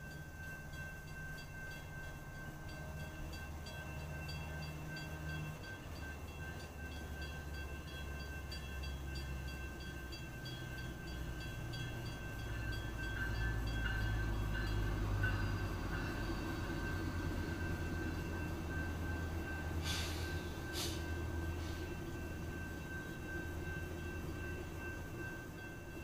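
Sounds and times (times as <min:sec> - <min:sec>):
railroad crossing bell ringing: 0:00.0 - 0:26.0
train rumbling past: 0:00.0 - 0:26.0.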